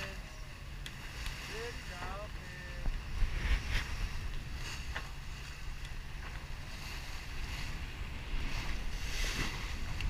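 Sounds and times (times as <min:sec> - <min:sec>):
sea water rushing along hull: 0:00.0 - 0:10.0
wind buffeting microphone: 0:00.0 - 0:10.0.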